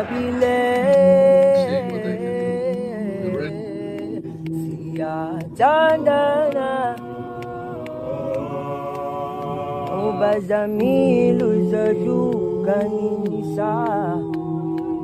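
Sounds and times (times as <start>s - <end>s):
a cappella voices singing: 0.0s - 15.0s.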